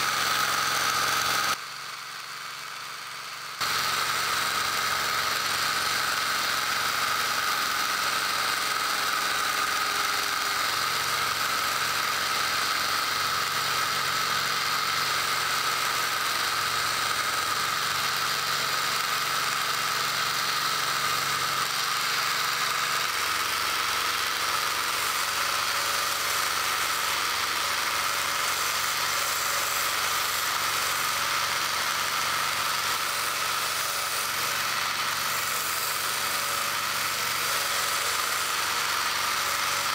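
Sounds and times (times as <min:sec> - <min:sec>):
belt sander motor whirring: 0:00.0 - 0:39.9.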